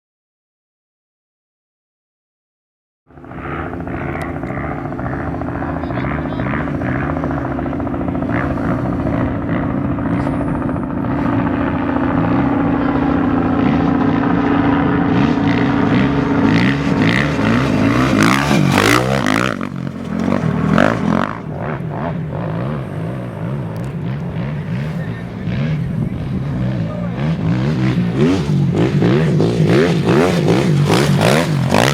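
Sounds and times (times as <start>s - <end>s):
motorcycle engines revving: 3.1s - 31.9s
steady drone: 3.1s - 31.9s.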